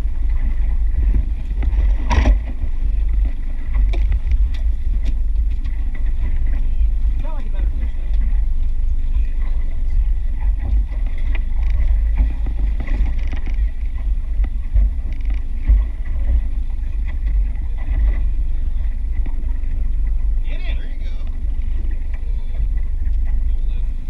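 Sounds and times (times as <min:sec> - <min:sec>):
boat engine low rumble: 0:00.0 - 0:24.0
gear knocking on boat: 0:00.0 - 0:24.0
wind on microphone: 0:00.0 - 0:24.0.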